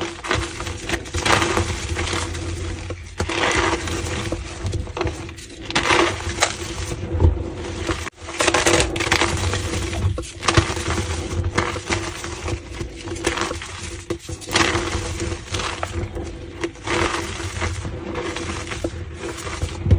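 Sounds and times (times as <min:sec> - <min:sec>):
chalk being crushed: 0:00.0 - 0:19.9.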